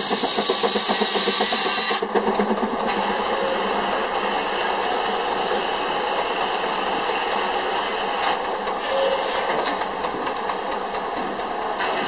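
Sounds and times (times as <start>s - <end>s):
steam traction engine clatter: 0.0s - 12.0s.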